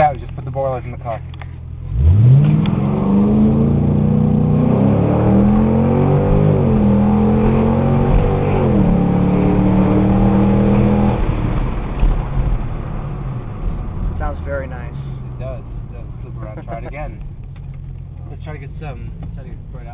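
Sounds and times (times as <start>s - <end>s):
car engine accelerating: 0.0s - 19.9s.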